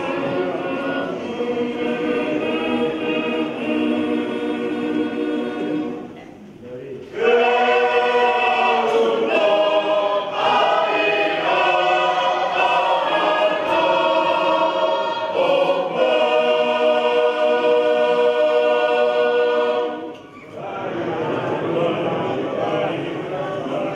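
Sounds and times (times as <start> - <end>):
choir singing a hymn: 0.0 - 23.9.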